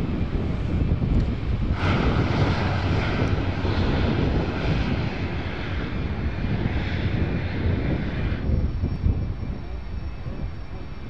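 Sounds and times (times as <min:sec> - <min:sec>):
turboprop aircraft climbing: 0:00.0 - 0:11.0.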